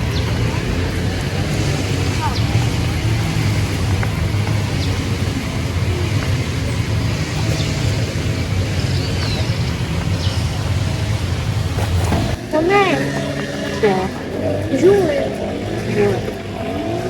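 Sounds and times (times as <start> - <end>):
car engine and tyre hum: 0.0 - 17.0.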